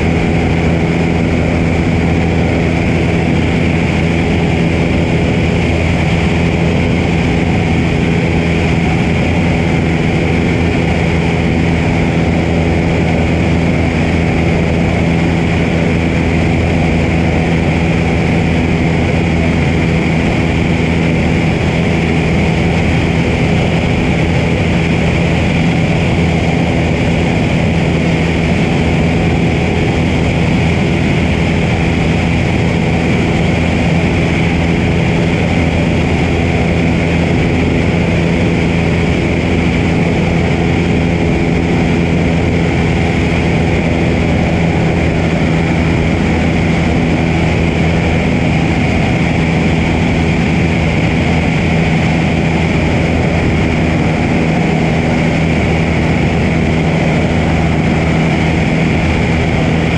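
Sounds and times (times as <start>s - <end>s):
plane engine and propeller drone: 0.0s - 59.9s
wind rushing over microphone: 0.0s - 59.9s.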